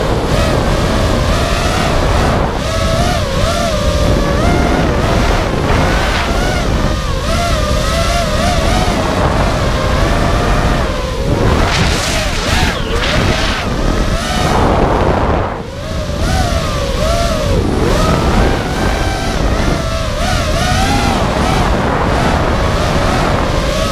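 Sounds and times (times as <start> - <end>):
quadcopter motor whine: 0.0 - 23.9
wind and prop wash rumble: 0.0 - 23.9.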